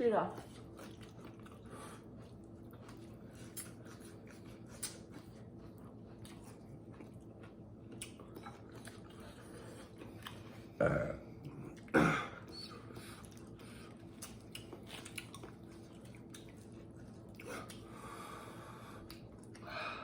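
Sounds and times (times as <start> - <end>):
steady low hum: 0.0 - 20.0
chewing and mouth clicks: 0.3 - 18.0, 18.9 - 19.7.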